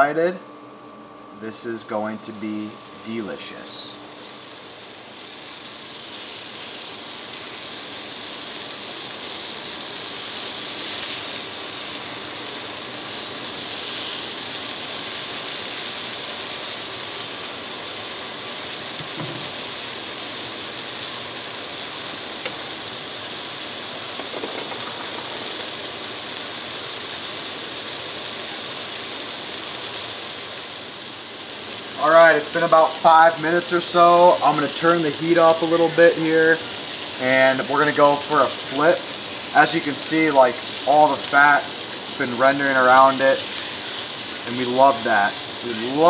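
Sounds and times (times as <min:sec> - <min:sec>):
meat sizzling in a skillet: 0:03.2 - 0:46.0.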